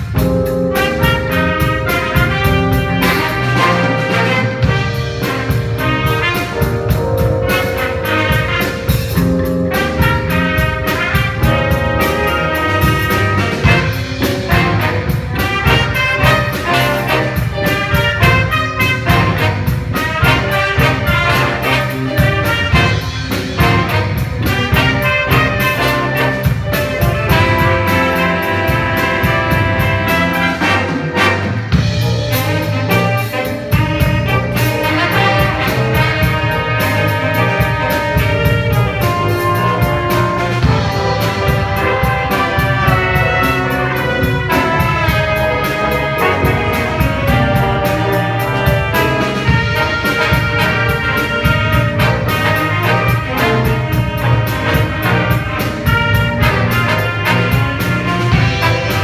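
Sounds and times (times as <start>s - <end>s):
brass-led instrumental music: 0.0s - 59.0s.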